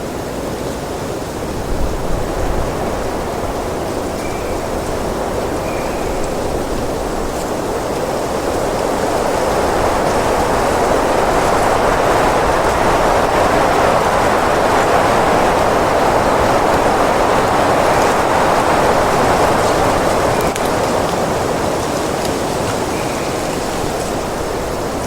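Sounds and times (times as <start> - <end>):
wind blowing: 1.0 - 25.0.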